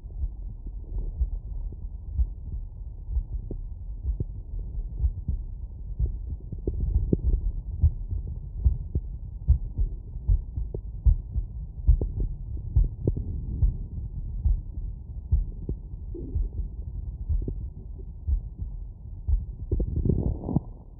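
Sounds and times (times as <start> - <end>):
heartbeat thumps: 0.0 - 20.9
low rumble: 0.0 - 20.9.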